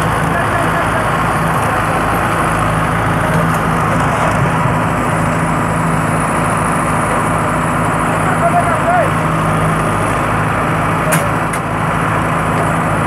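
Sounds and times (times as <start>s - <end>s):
tractor diesel engines under load: 0.0s - 13.0s.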